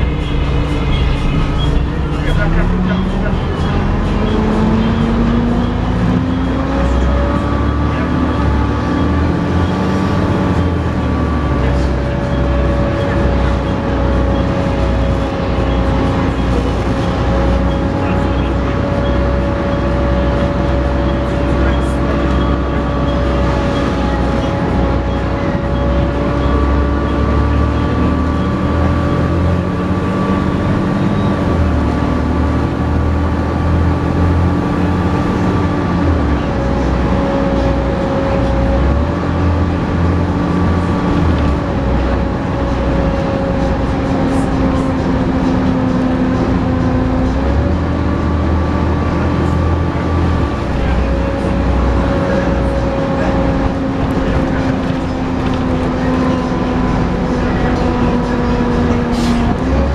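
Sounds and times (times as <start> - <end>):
bus diesel engine whining: 0.0 - 59.9.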